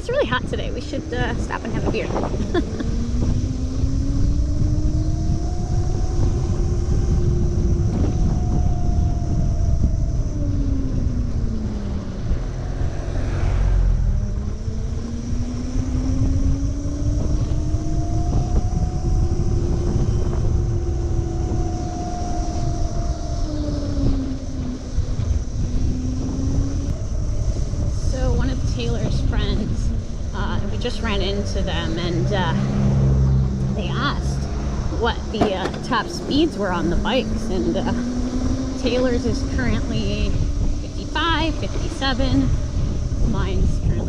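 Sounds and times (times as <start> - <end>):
electric moped motor whine: 0.0 - 44.0
wind rushing over microphone: 0.0 - 44.0.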